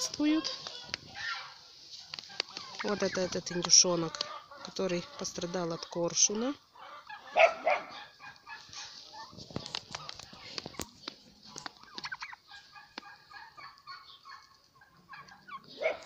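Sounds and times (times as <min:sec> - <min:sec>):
young turkeys peeping: 0:00.0 - 0:16.0.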